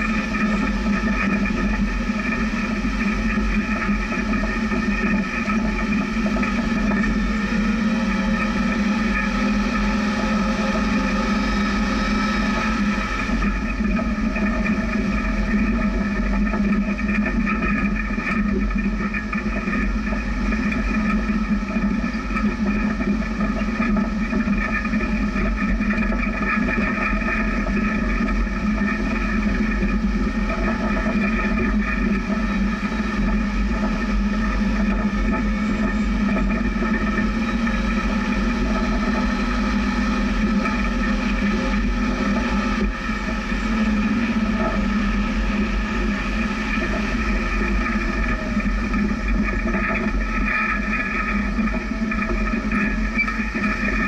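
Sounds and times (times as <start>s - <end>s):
car engine running: 0.0s - 54.0s
drivetrain and rough-ground noise: 0.0s - 54.0s.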